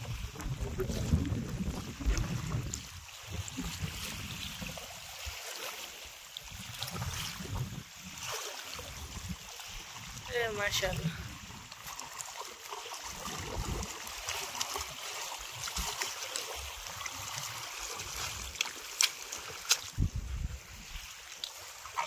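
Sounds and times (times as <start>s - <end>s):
water sloshing around wading feet: 0.0s - 22.0s.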